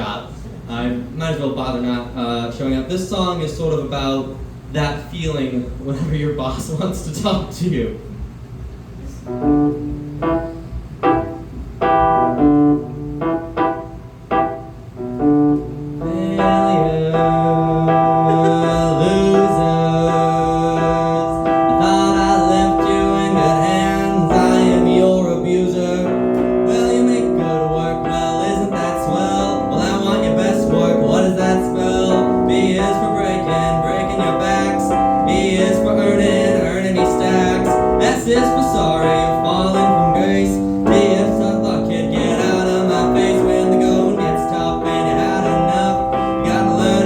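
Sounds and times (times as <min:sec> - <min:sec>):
piano keyboard chords: 0:09.2 - 0:47.0.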